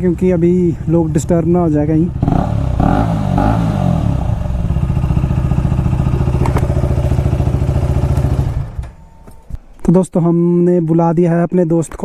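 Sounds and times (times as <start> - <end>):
motorcycle engine idling and revving: 0.0 - 9.6.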